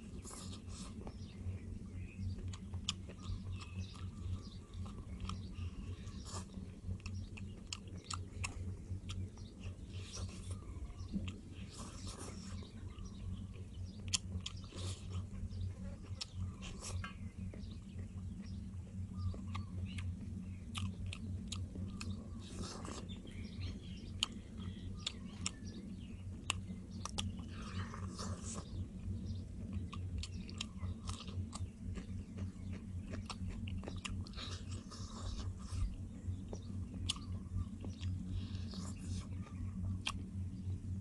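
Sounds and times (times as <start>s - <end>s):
person chewing fried chicken: 0.0s - 40.5s
low hum: 0.0s - 41.0s.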